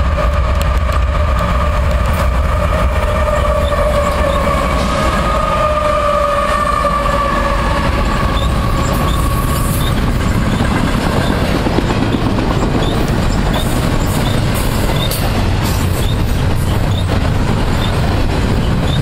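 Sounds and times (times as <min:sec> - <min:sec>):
locomotive whine: 0:00.0 - 0:19.0
train wheels rumbling on rails: 0:00.0 - 0:19.0.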